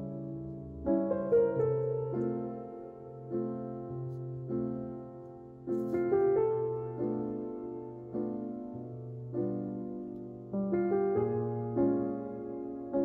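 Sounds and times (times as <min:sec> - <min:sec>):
soft slow piano music: 0:00.0 - 0:13.0.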